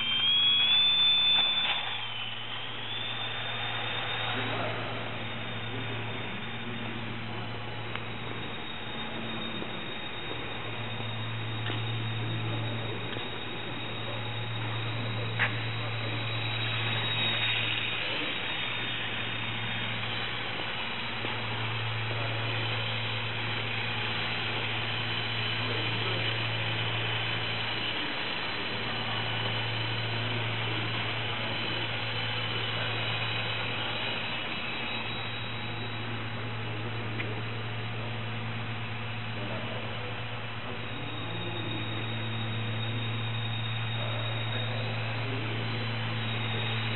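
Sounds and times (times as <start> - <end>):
low hum: 0.0 - 46.9
small electric motor whining: 0.0 - 46.9.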